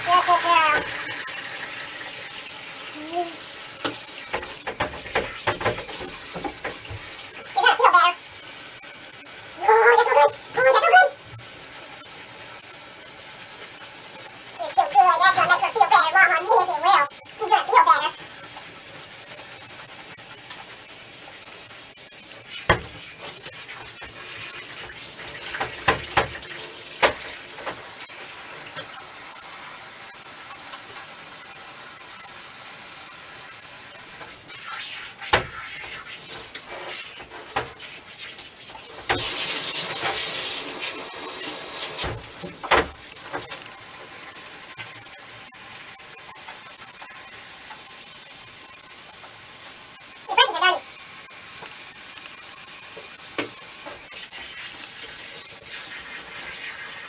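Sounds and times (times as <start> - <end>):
water running from tap: 0.0 - 57.0.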